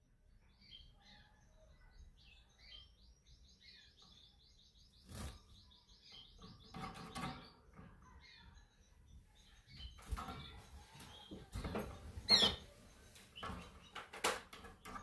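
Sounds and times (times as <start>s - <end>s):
canary singing: 0.5s - 14.1s.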